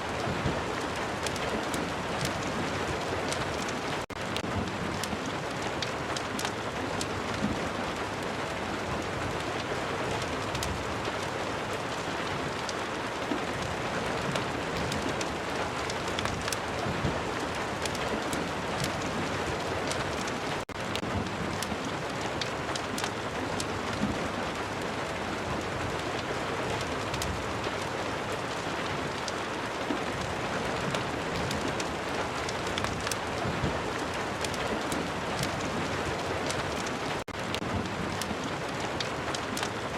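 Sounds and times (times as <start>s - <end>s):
fire crackling: 0.0s - 39.9s
rain: 0.0s - 39.9s.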